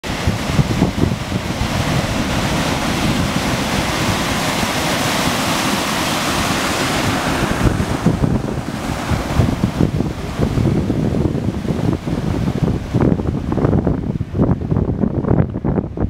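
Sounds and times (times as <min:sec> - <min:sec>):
tidal surge roaring: 0:00.0 - 0:16.0.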